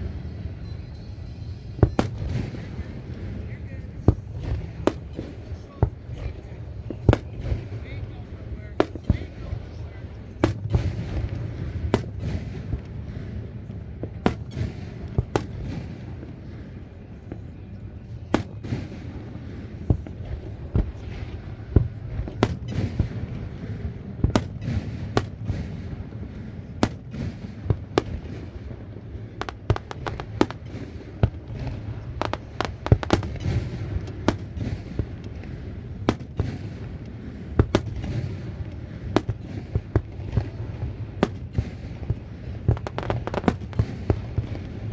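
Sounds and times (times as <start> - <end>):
fireworks bursting and banging: 0.0 - 44.9.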